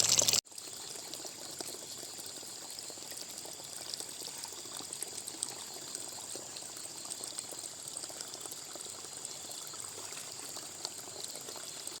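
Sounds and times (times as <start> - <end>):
water running and trickling: 0.0 - 12.0.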